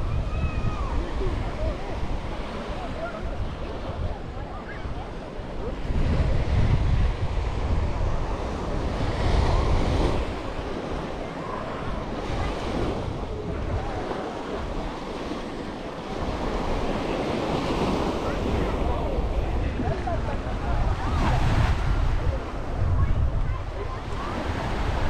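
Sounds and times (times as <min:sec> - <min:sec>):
small waves breaking on shore: 0:00.0 - 0:25.0
wind buffeting microphone: 0:00.0 - 0:25.0.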